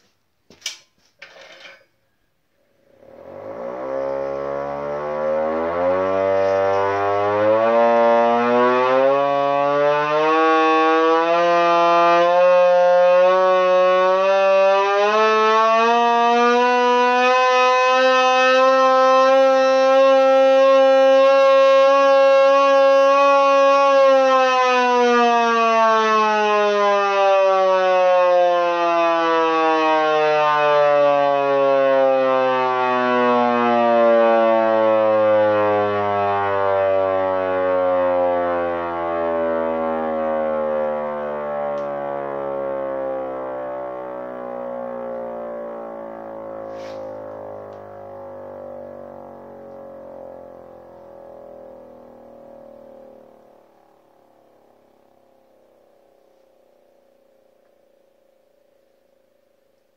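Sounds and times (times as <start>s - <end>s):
hand-crank siren wailing: 2.8s - 58.6s.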